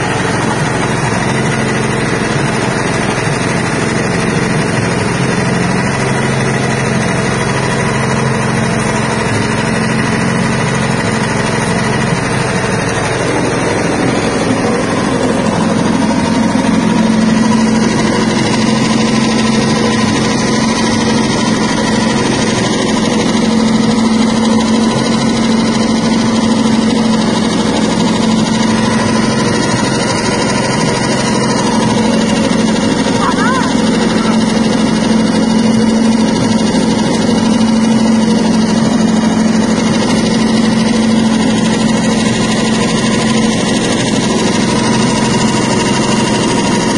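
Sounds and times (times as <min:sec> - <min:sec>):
machine motor humming: 0:00.0 - 0:46.9.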